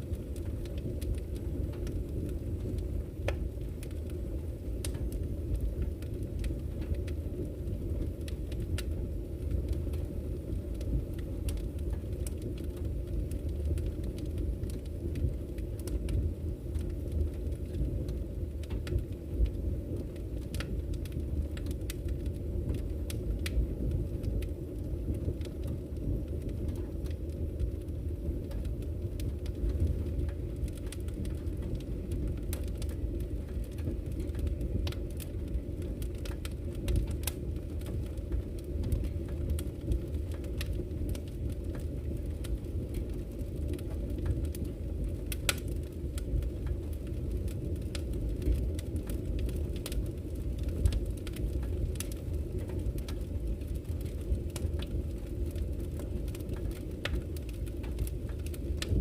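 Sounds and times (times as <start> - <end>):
burning logs crackling and popping: 0.0 - 59.0
fire flames rumbling: 0.0 - 59.0.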